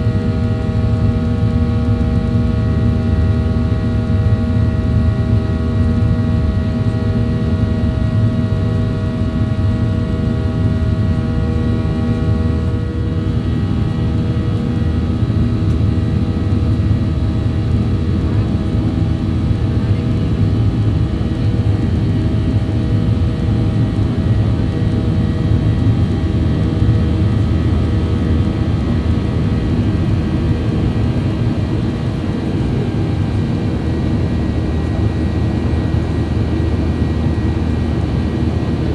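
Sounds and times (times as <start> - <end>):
jet engine low drone: 0.0 - 38.9
jet engine whine: 0.0 - 38.9.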